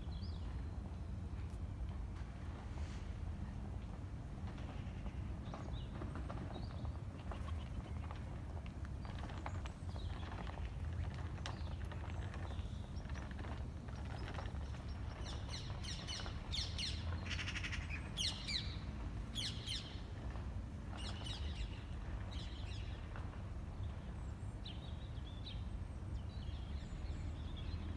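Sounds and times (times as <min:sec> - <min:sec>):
songbirds chirping: 0:00.0 - 0:27.9.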